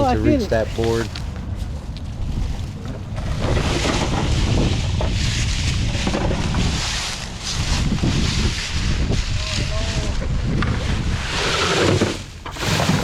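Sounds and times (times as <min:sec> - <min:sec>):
wind buffeting microphone: 0:00.0 - 0:12.5.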